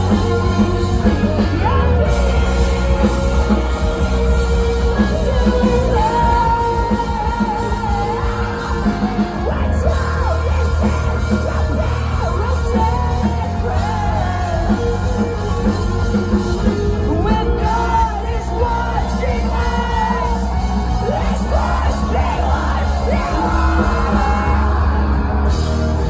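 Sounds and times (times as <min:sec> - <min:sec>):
bass guitar: 0:00.0 - 0:26.0
drums: 0:00.0 - 0:26.0
electric guitars: 0:00.0 - 0:26.0
person singing and yelling: 0:00.0 - 0:26.0.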